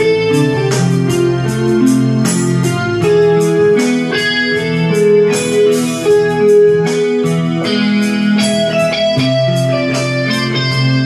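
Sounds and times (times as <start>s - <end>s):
electronic keyboard tune: 0.0s - 11.0s.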